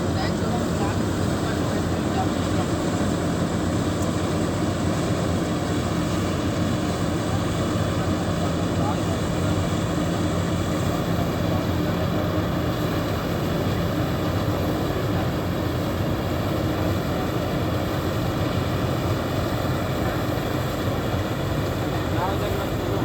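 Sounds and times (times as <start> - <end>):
diesel engines droning: 0.0 - 23.0.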